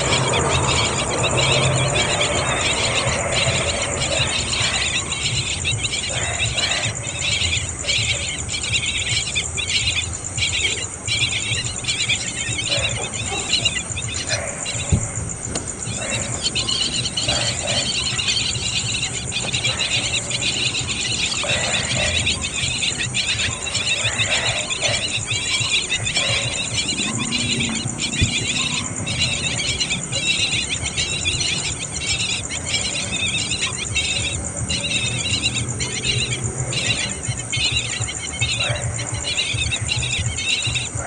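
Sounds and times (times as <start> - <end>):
chicks cheeping: 0.0 - 41.0.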